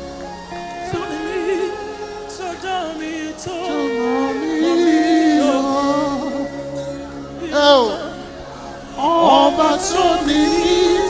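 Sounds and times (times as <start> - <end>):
instrumental accompaniment: 0.0 - 11.0
person singing worship song: 0.0 - 11.0.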